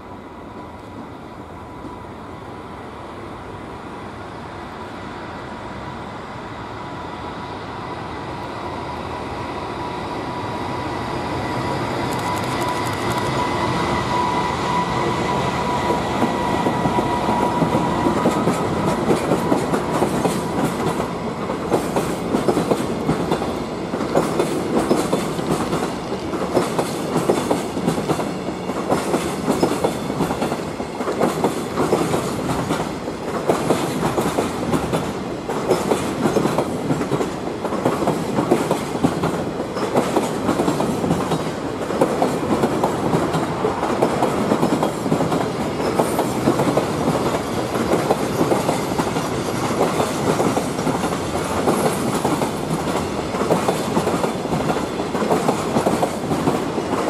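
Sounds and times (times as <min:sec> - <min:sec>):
electric locomotive whine: 0:00.0 - 0:57.0
freight train rumble: 0:00.0 - 0:57.0.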